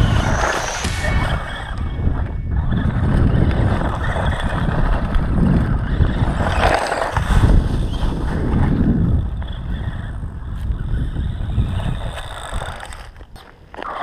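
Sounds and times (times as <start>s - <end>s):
low rumble: 0.0s - 11.8s
electric motor whining: 0.0s - 13.2s.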